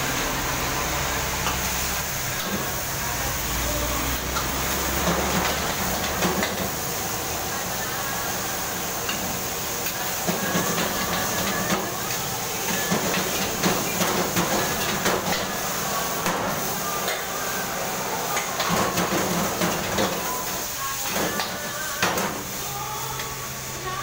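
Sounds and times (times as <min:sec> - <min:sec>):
vegetables sizzling in a wok: 0:00.0 - 0:24.0.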